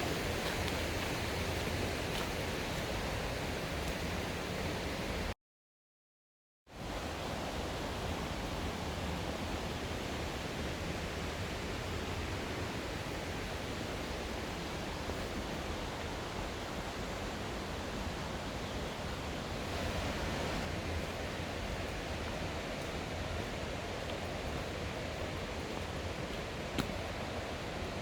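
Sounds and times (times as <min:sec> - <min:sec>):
stream and waterfall rushing: 0:00.0 - 0:05.3, 0:06.8 - 0:28.0.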